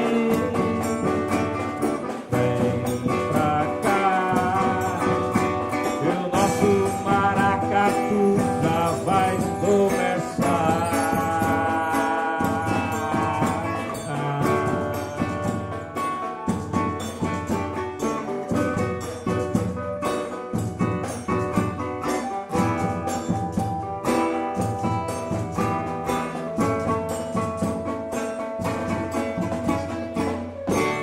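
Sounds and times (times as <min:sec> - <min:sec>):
percussion beat: 0:00.0 - 0:31.0
plucked-string melody: 0:00.0 - 0:31.0.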